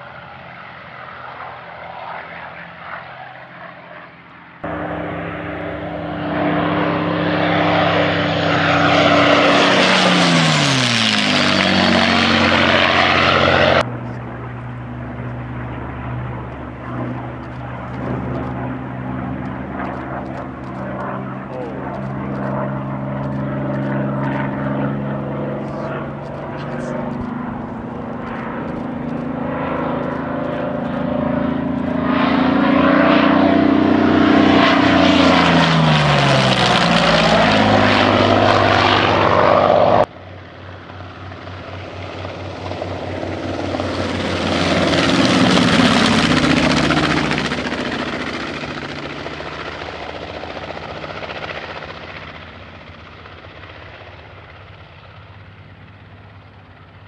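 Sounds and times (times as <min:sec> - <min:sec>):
propeller plane flying past: 0:00.0 - 0:57.0
twin radial engine plane flyby: 0:00.0 - 0:57.0.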